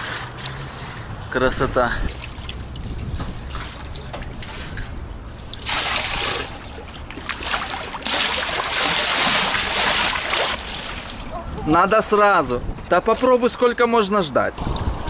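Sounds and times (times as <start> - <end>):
pool water splashing: 2.0 - 15.0.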